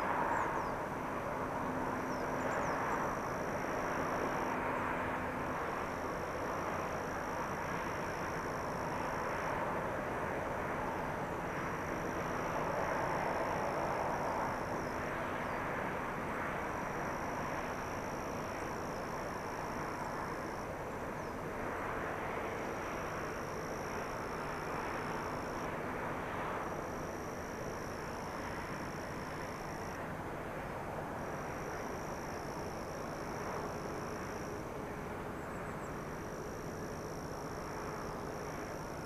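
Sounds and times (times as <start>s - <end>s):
high insect trill: 0.0s - 39.0s.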